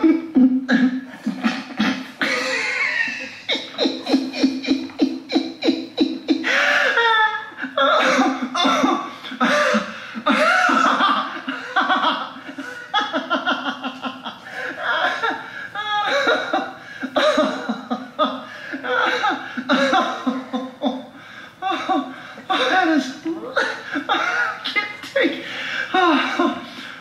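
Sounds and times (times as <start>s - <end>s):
people laughing: 0.0s - 26.8s.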